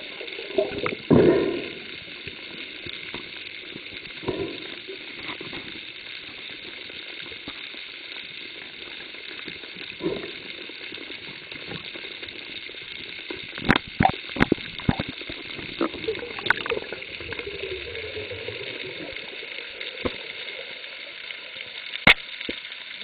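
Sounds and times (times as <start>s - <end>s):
muffled bubbly swells: 0.0s - 23.0s
underwater crackling hiss: 0.0s - 23.0s.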